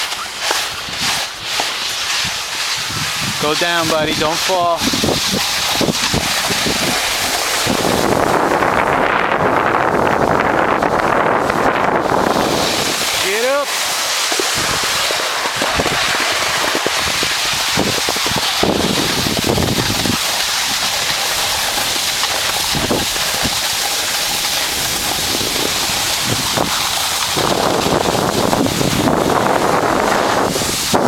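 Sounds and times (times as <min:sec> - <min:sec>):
sliding over snow: 0:00.0 - 0:31.0
wind buffeting microphone: 0:00.7 - 0:13.6, 0:14.3 - 0:31.0.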